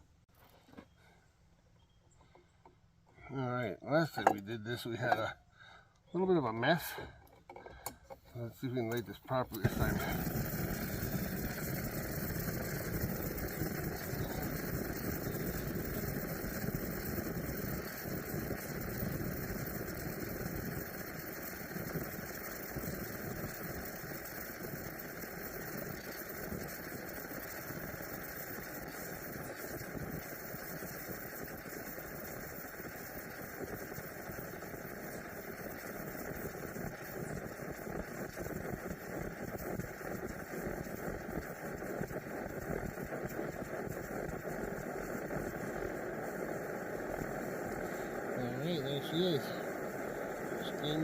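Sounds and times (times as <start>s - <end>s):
camp stove flame roar: 2.6s - 51.0s.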